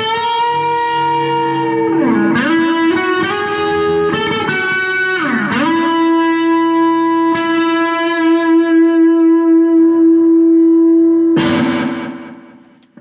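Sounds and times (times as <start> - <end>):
electric guitar slow melody: 0.0 - 13.0.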